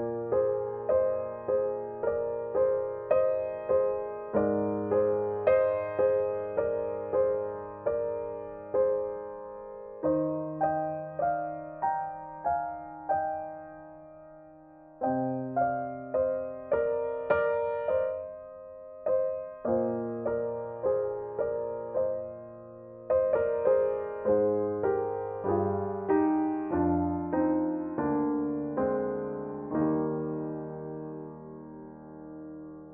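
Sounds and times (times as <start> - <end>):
slow piano notes: 0.0 - 32.9.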